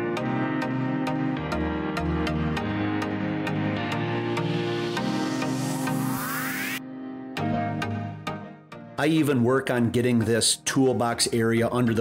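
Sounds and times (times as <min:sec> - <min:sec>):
electronic background music: 0:00.0 - 0:12.0.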